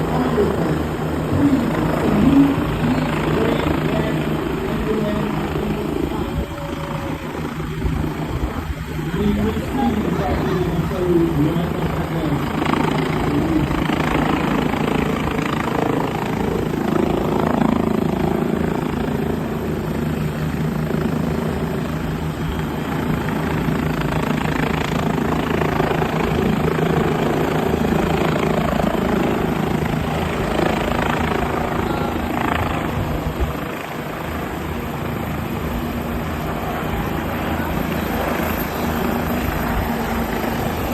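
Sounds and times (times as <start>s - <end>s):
helicopter rotor thrum: 0.0s - 40.9s.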